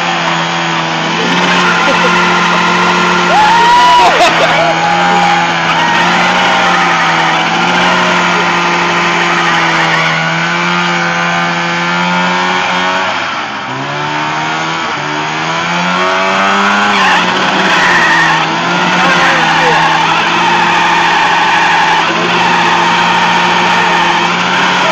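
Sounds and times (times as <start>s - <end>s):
two-stroke engine revving: 0.0s - 24.9s
tyres spinning: 0.0s - 24.9s.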